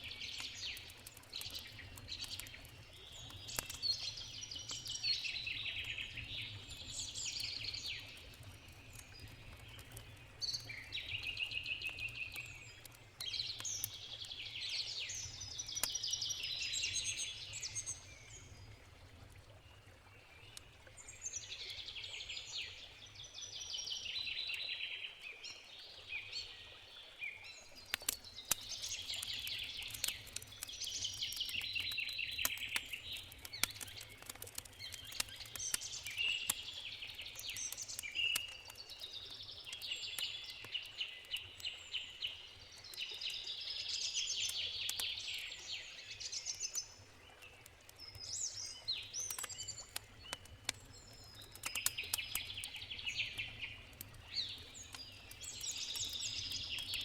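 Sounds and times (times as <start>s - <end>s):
campfire crackling and popping: 0.0s - 24.6s, 27.6s - 57.0s
songbirds singing and chirping: 0.0s - 57.0s.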